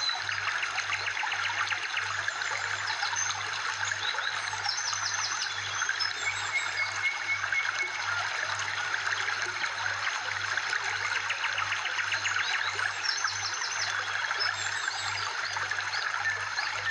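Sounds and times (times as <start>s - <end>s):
water trickling: 0.0s - 16.9s.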